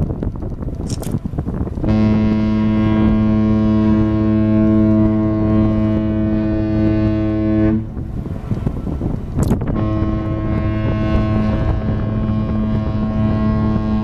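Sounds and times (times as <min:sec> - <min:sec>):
wind on microphone: 0:00.0 - 0:14.0
ship horn blast: 0:01.8 - 0:14.0.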